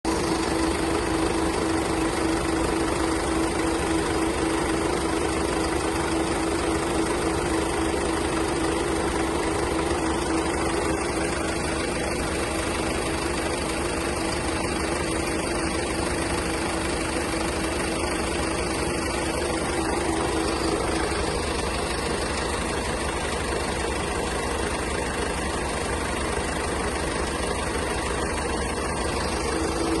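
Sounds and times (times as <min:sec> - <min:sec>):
van engine idling: 0:00.0 - 0:30.0.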